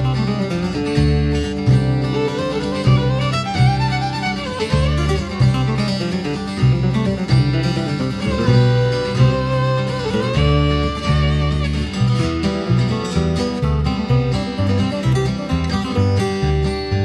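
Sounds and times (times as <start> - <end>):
acoustic guitar: 0.0 - 17.0
fiddle: 0.0 - 17.0
pulsing bass: 0.0 - 17.0.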